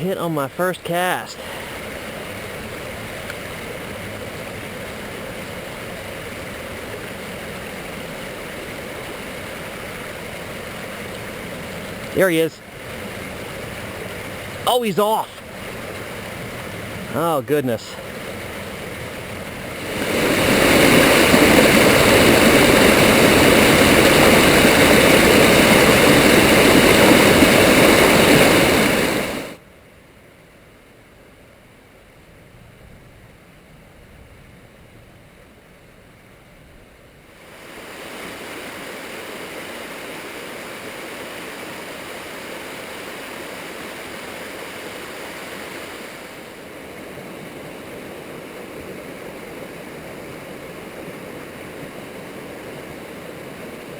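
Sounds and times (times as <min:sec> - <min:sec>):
mountain stream rushing: 0:00.0 - 0:29.6, 0:37.3 - 0:53.9.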